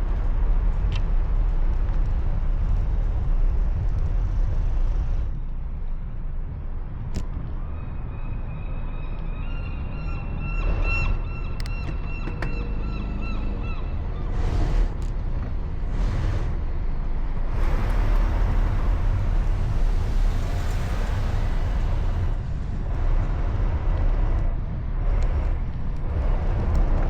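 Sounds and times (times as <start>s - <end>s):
wind rumbling on microphone: 0.0s - 27.0s.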